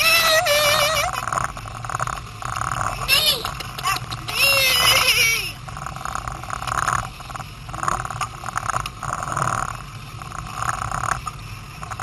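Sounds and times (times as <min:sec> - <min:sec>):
outboard motor rumbling: 0:00.0 - 0:12.0.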